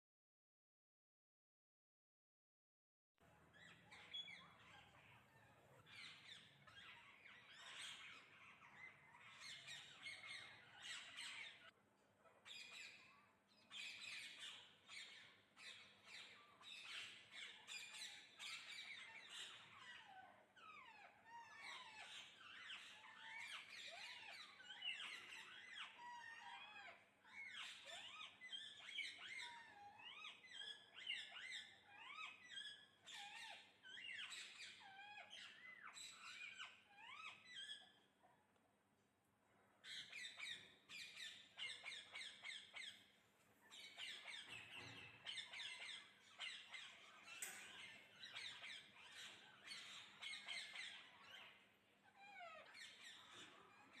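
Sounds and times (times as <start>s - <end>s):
parrots calling: 3.3s - 38.5s, 39.7s - 54.0s.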